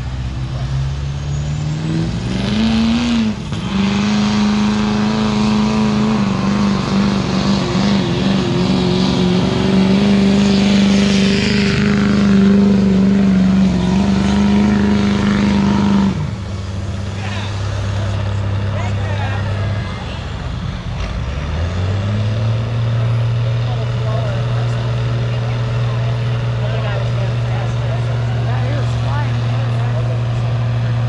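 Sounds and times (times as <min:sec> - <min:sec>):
truck engine revving under load: 0:00.0 - 0:31.0.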